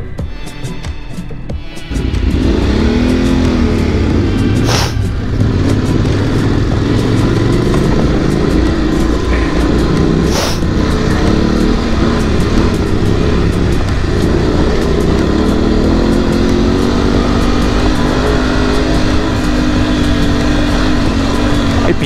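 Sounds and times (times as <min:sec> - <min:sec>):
motorcycle engine running: 0:01.5 - 0:22.0.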